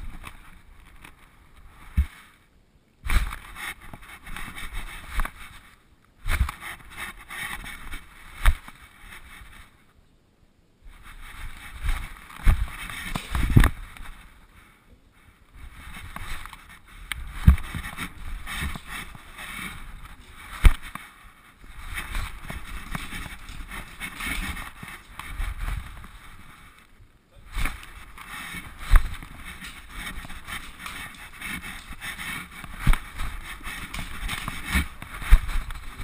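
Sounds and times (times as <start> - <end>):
camera rubbing and rustling: 0.0 - 2.4, 3.1 - 9.9, 10.9 - 36.0.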